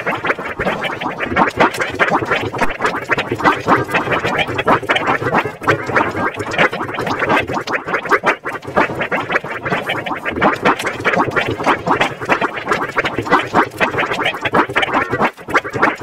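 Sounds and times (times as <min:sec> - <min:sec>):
distorted cartoon water gurgling: 0:00.0 - 0:16.0.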